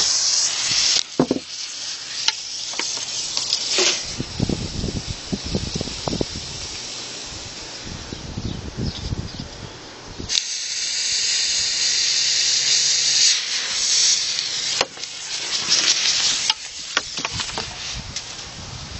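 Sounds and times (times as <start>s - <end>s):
firework crackles: 0.0s - 7.8s, 10.3s - 18.6s
smoke bomb hissing: 0.0s - 8.1s, 10.3s - 18.6s.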